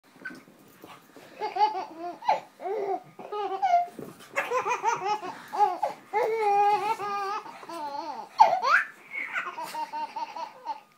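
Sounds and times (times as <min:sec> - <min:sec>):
baby giggling: 0:01.4 - 0:10.9.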